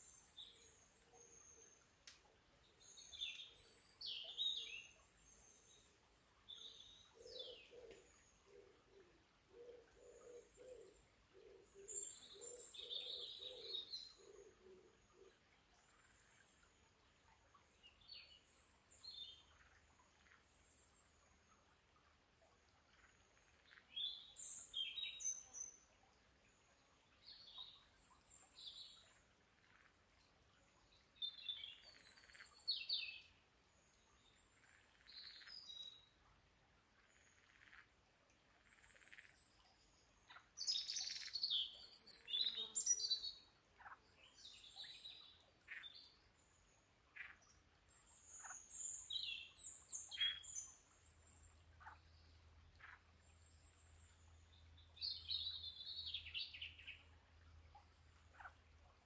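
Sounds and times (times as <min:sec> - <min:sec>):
faint hiss: 0:00.0 - 0:59.0
songbirds twittering: 0:02.7 - 0:21.6, 0:22.9 - 0:36.2, 0:38.6 - 0:59.0.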